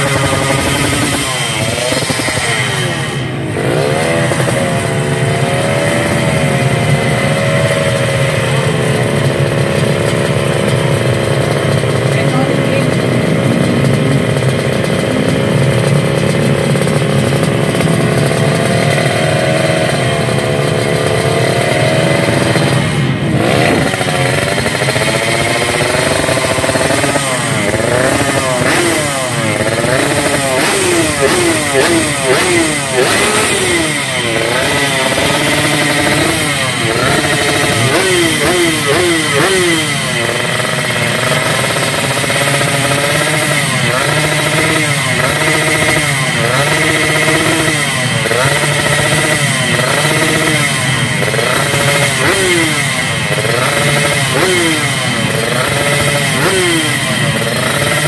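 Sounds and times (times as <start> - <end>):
two-stroke engine revving: 0.0 - 58.0.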